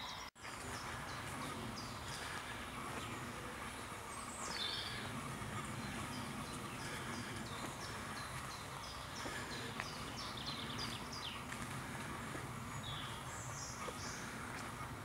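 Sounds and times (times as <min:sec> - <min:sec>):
low background rumble: 0:00.4 - 0:15.0.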